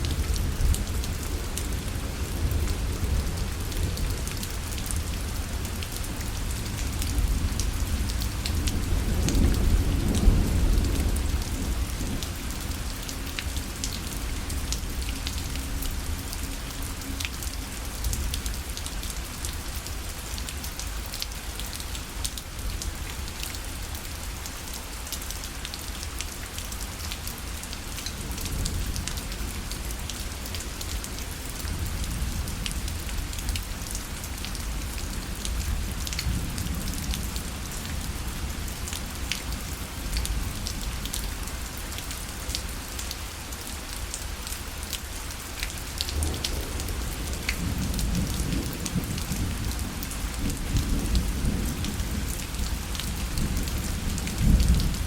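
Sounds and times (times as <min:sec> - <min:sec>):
rain on a fabric parasol: 0:00.0 - 0:55.0.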